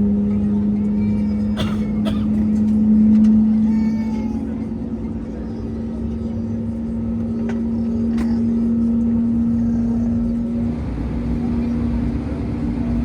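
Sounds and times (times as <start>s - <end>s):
aircraft cabin engine hum: 0.0s - 13.0s.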